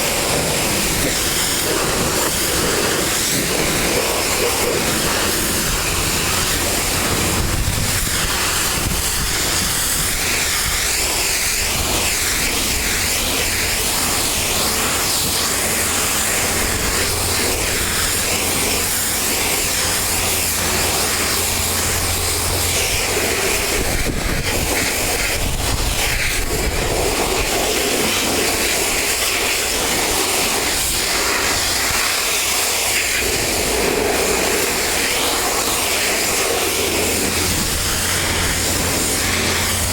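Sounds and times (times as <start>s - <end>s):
pressure washer spray hissing: 0.0s - 39.9s.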